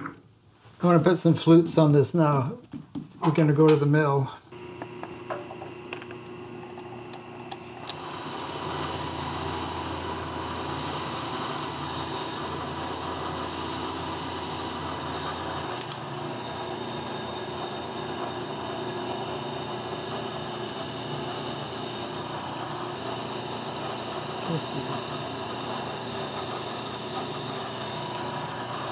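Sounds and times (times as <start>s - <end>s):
milling machine cutting brass: 4.6s - 28.9s.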